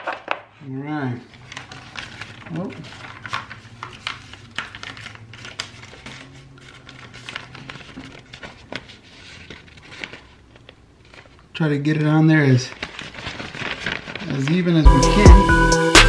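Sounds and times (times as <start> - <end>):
plastic sheets crinkling: 0.0 - 15.3.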